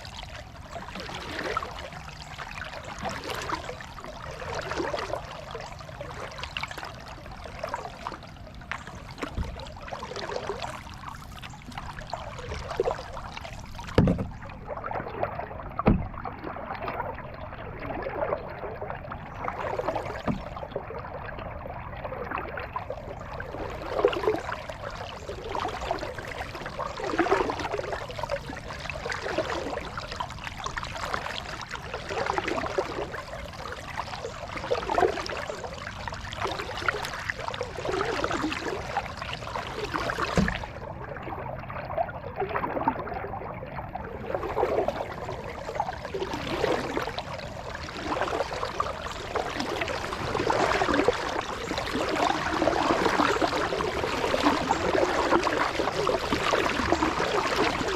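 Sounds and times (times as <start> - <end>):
kayak paddle splashing water: 0.0 - 57.9.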